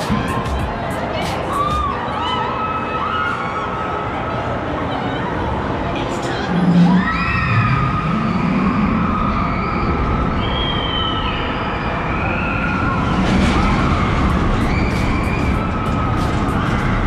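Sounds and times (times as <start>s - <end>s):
crowd din: 0.0s - 17.0s
people screaming on rides: 1.2s - 17.0s.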